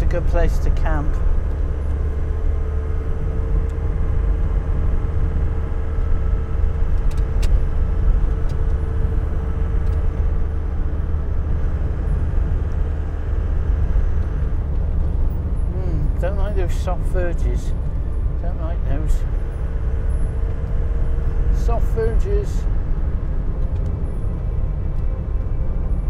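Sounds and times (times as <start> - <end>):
camper van engine drone: 0.0 - 26.0
road rumble: 0.0 - 26.0.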